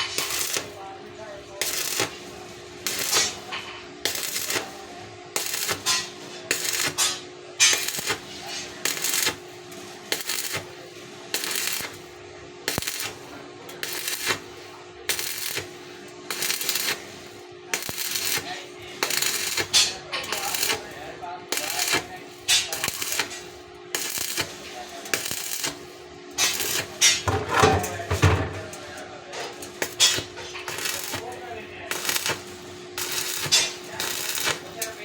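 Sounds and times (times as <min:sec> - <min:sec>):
welding arc hissing: 0:00.0 - 0:35.0.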